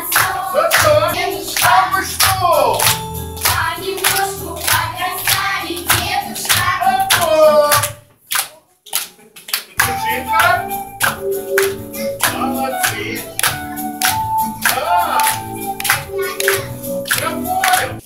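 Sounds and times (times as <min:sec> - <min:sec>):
festive song with singing: 0:00.0 - 0:08.0, 0:09.8 - 0:18.0.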